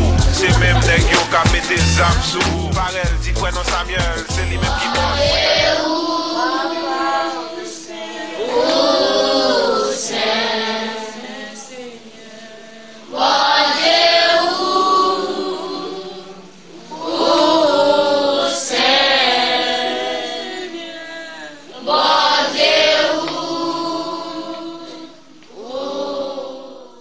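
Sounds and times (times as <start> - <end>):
children singing: 0.0 - 27.0.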